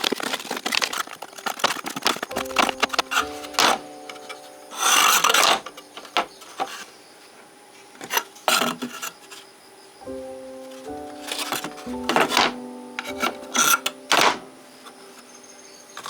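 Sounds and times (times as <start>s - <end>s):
faint steady background tones: 0.0s - 16.0s.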